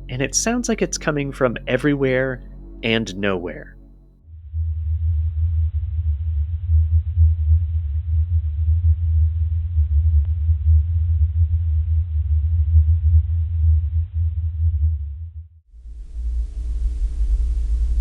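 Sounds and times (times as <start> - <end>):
low humming rumble: 0.0 - 18.0.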